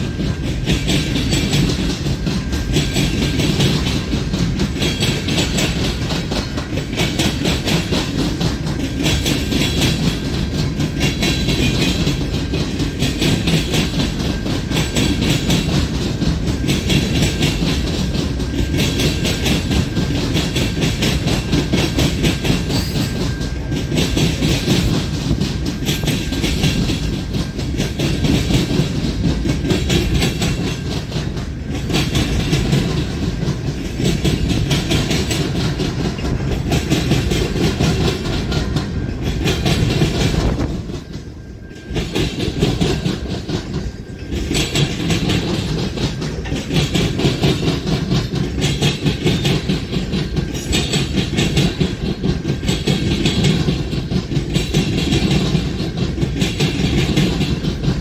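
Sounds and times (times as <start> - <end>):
train wheels rumbling and clacking: 0.0 - 58.0.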